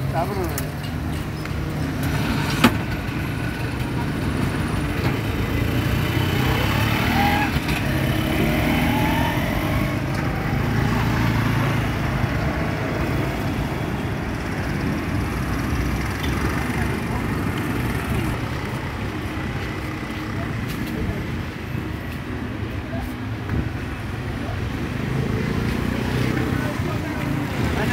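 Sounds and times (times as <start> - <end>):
vehicle engines droning: 0.0 - 27.9.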